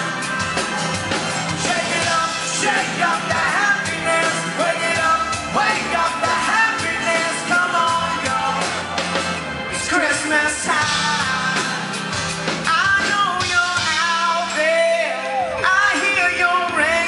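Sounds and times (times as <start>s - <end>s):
pop-rock band playing: 0.0s - 17.0s
male singer singing: 1.5s - 9.0s, 9.7s - 17.0s.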